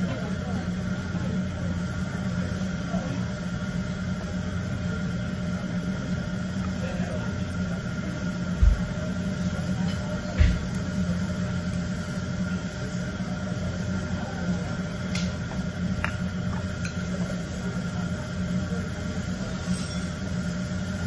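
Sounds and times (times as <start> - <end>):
restaurant dining room hum: 0.0 - 21.0.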